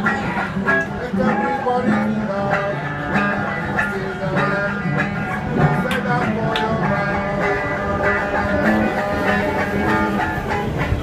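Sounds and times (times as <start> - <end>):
guitar picked and strummed: 0.0 - 11.0.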